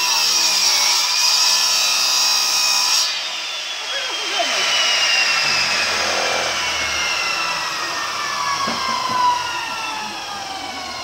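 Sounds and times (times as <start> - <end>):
circular saw winding down: 0.0 - 11.0.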